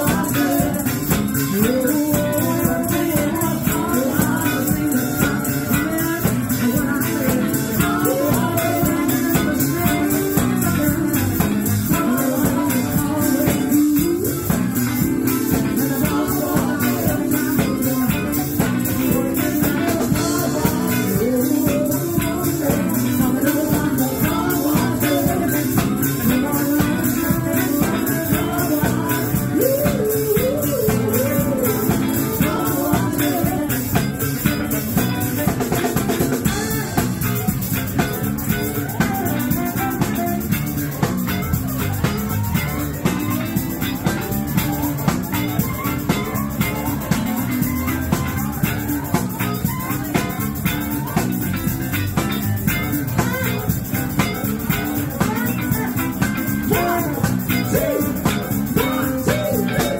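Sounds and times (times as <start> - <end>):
live band with electric guitars: 0.0 - 59.9.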